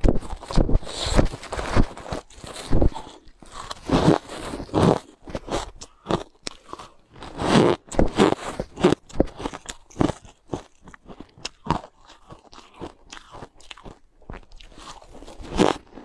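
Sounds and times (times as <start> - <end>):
chewing crunchy ice: 0.0 - 16.0.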